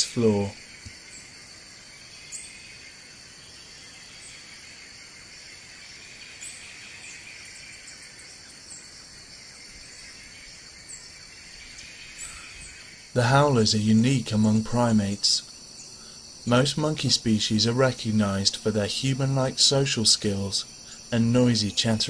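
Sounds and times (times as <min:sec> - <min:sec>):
faint high bird chirps: 0:00.0 - 0:22.0
high insect chorus: 0:00.0 - 0:22.0.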